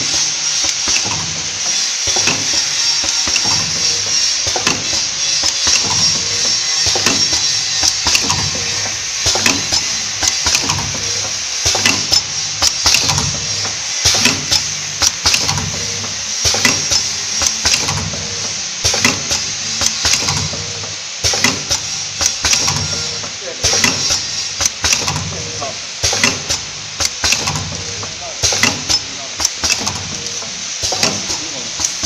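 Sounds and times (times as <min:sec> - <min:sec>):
machine clacks and knocks: 0:00.0 - 0:32.0
steady hiss: 0:00.0 - 0:32.0.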